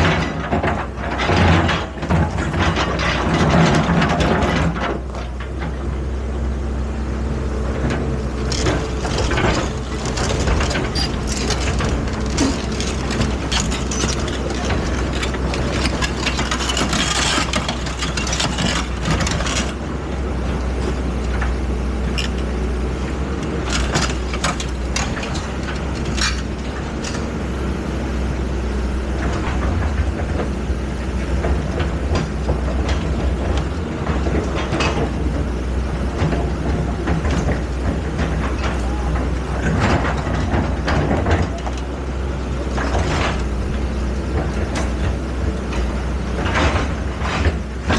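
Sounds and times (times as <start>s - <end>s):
machine knocks and clatter: 0.0s - 5.8s, 7.7s - 22.4s, 23.4s - 27.4s, 29.0s - 47.9s
excavator engine running: 0.0s - 47.9s.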